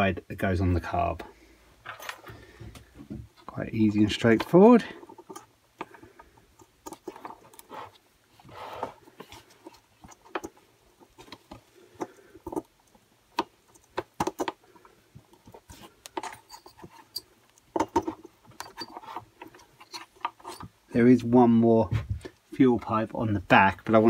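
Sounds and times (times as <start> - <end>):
hands handling plastic parts: 0.8 - 21.0.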